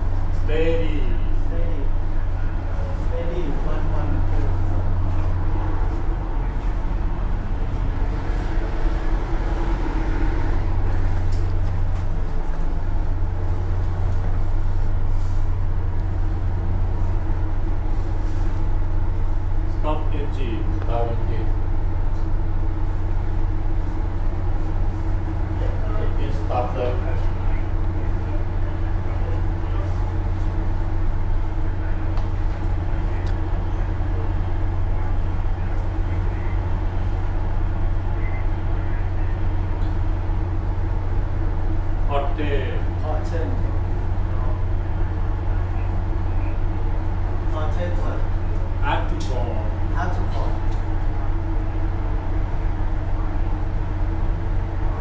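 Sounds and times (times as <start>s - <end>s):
ship engine deep hum: 0.0s - 55.0s.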